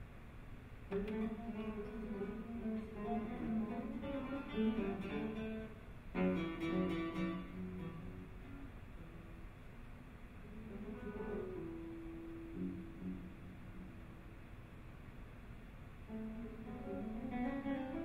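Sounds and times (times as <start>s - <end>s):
classical guitars playing: 0.9s - 9.6s, 10.3s - 14.6s, 16.1s - 18.0s.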